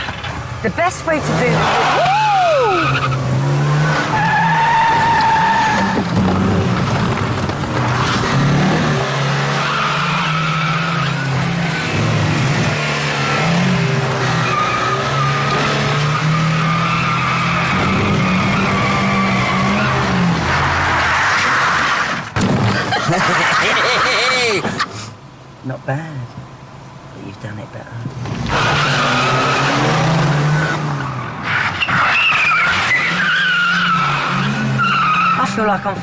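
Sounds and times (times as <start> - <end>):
car engine revving: 0.0 - 24.9, 28.0 - 36.0
tyres squealing and skidding: 1.0 - 25.2, 28.3 - 36.0.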